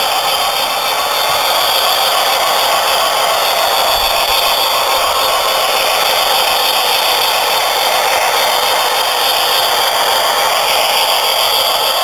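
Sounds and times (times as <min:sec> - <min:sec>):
model locomotive motor: 0:00.0 - 0:12.0
model train wheels on rail: 0:00.0 - 0:12.0.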